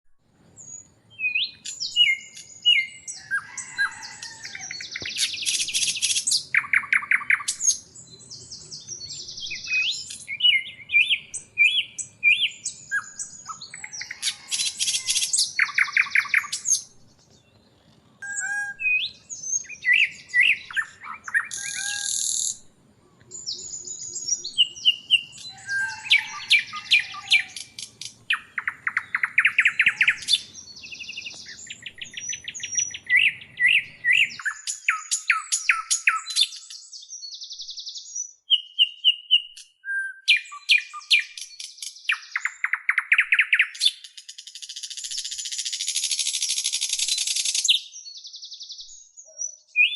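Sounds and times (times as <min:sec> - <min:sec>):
songbird singing: 0:00.2 - 0:49.9.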